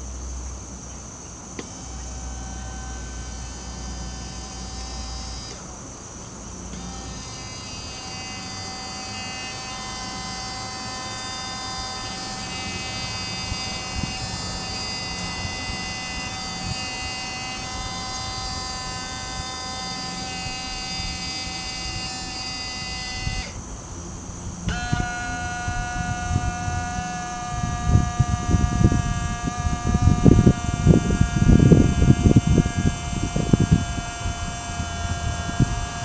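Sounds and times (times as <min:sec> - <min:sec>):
crane hoist motor whining: 0:01.4 - 0:36.0.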